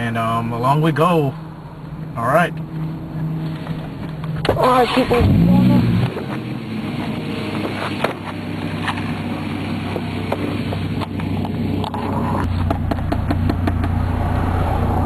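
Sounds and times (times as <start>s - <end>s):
engine idling rumble: 1.4s - 15.0s.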